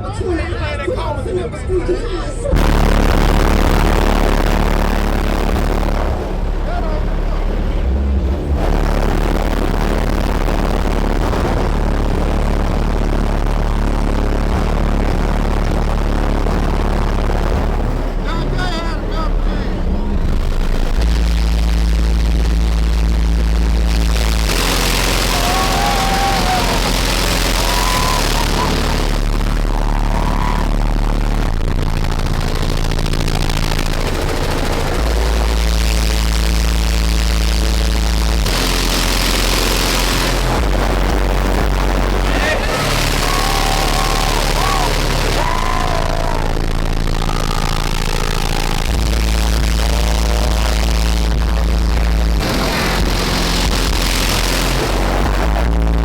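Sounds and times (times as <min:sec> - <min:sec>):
car stereo deep bass: 0:00.0 - 0:56.0.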